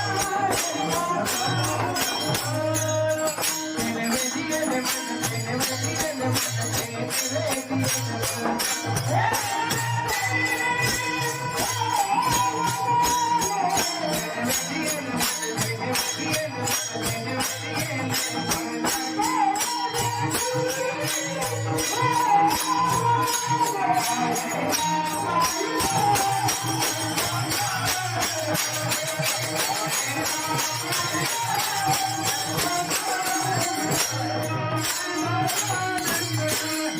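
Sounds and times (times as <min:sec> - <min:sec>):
jingling percussion rhythm: 0:00.0 - 0:36.9
person singing devotional chant: 0:00.0 - 0:36.9.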